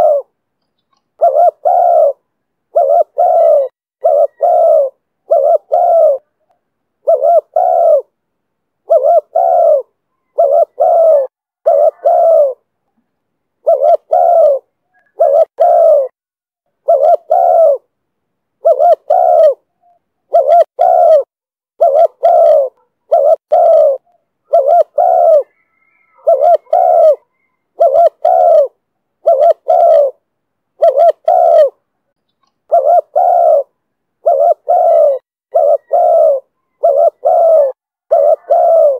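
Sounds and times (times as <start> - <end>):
dove cooing: 0.0 - 0.3, 1.2 - 8.2, 8.8 - 12.7, 13.6 - 16.2, 16.8 - 17.9, 18.6 - 30.2, 30.8 - 38.9.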